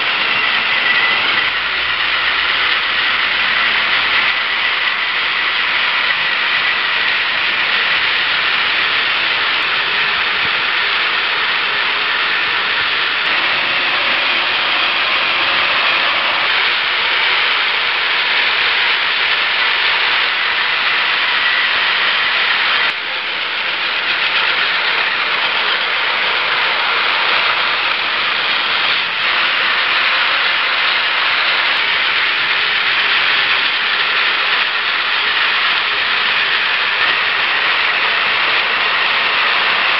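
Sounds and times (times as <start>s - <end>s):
toy train motors whirring: 0.0s - 39.9s.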